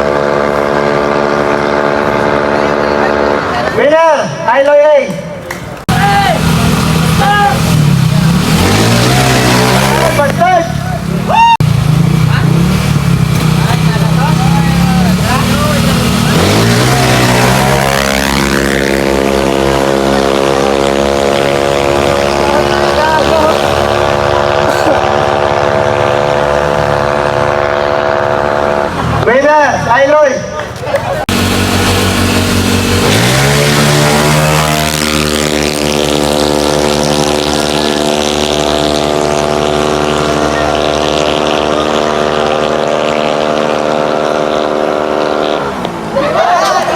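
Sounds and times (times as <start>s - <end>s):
scooter engine at full throttle: 0.0s - 3.9s, 5.9s - 29.3s, 31.0s - 46.9s.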